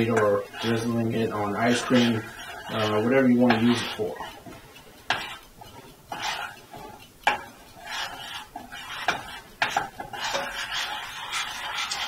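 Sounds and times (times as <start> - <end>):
utensil clinking metal pan: 0.0 - 12.0
utensil scraping saucepan: 0.0 - 12.0.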